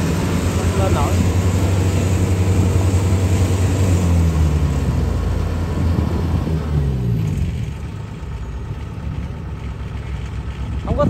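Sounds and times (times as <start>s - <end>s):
combine harvester diesel engine: 0.0s - 11.0s.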